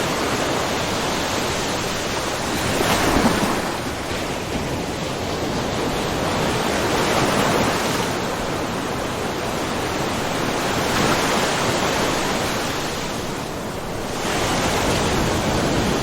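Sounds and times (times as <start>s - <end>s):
waves washing on rocky shore: 0.0s - 16.0s.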